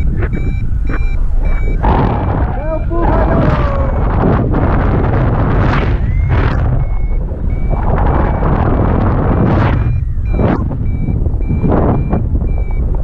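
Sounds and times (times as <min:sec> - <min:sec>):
variometer short high beeps: 0:00.0 - 0:13.0
wind rushing over microphone: 0:00.0 - 0:13.0.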